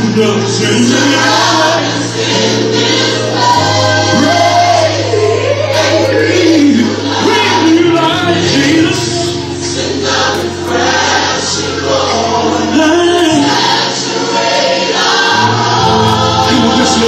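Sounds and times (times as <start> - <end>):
group singing worship song: 0.0 - 17.0.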